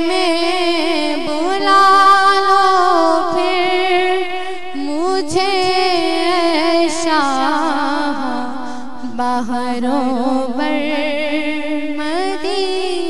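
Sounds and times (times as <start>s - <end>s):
solo voice singing devotional song: 0.0s - 13.0s.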